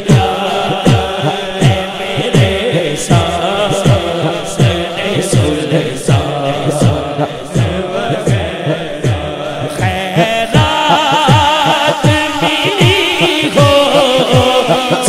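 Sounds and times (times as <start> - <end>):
deep beats dropping in pitch: 0.0 - 15.0
man singing into a microphone: 0.0 - 15.0.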